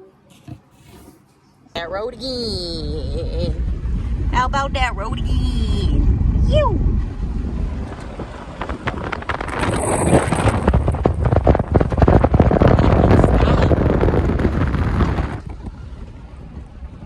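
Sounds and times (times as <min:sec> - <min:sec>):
wind buffeting microphone: 0:01.9 - 0:17.0.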